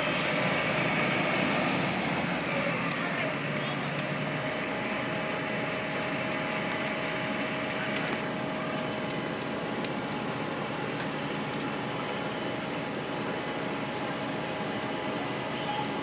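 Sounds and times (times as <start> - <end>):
fire engine running: 0.0 - 16.0
fire snapping and crackling: 0.0 - 16.0.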